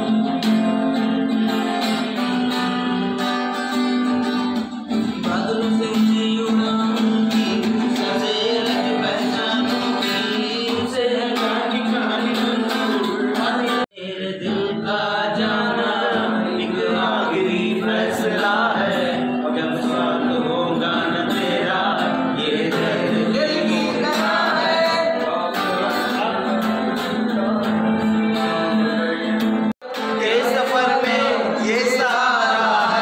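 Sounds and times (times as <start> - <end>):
acoustic guitar: 0.0 - 33.0
man singing: 5.0 - 33.0.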